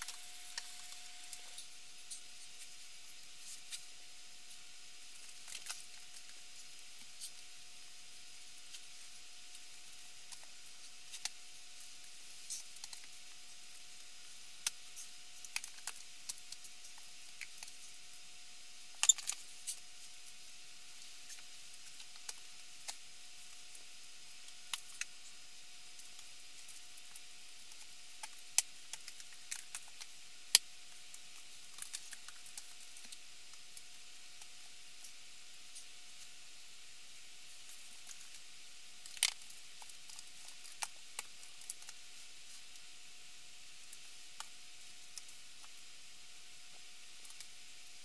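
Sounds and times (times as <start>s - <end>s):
faint constant tone: 0.0s - 48.0s
steady hiss: 0.0s - 48.0s.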